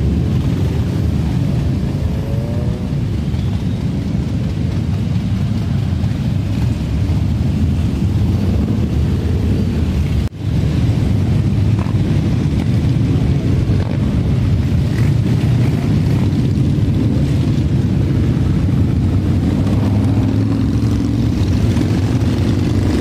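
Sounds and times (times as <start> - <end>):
motorcycle engines droning: 0.0 - 23.0.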